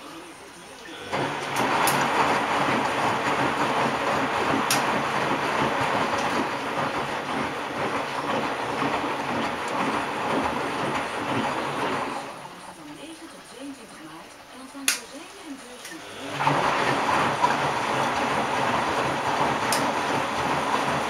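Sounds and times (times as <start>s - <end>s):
washing machine drum sloshing: 0.1s - 13.5s, 15.5s - 21.0s.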